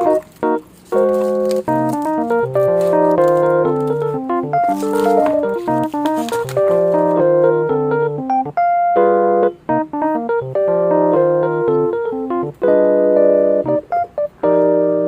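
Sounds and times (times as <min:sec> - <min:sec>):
light keyboard tune: 0:00.0 - 0:15.0.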